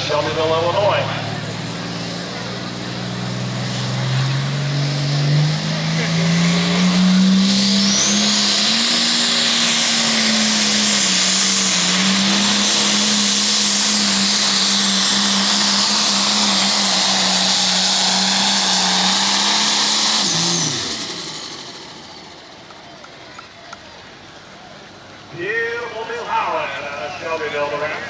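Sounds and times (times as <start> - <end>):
diesel engine high-revving drone: 0.0 - 28.0.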